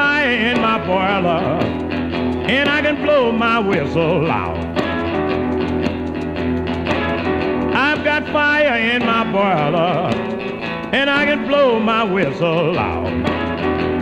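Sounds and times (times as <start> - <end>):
guitar chords: 0.0 - 14.0
sliding lead melody: 0.0 - 14.0.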